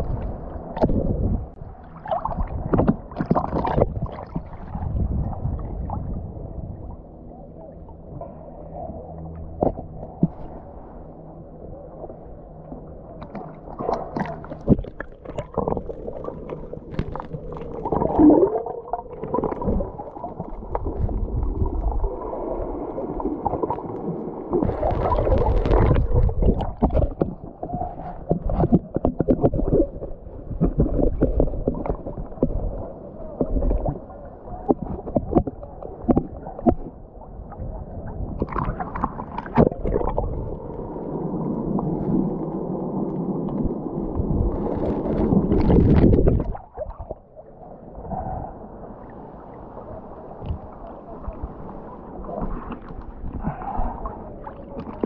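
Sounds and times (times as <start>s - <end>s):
sea water sloshing and splashing: 0.0s - 11.1s, 12.0s - 55.0s.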